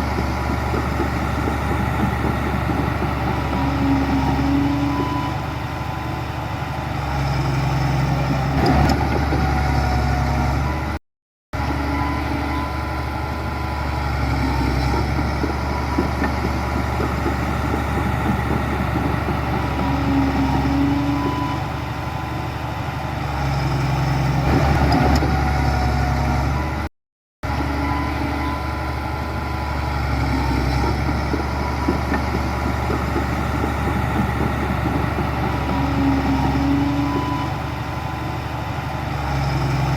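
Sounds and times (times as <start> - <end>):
heavy diesel engine running: 0.0 - 11.0, 11.6 - 39.9.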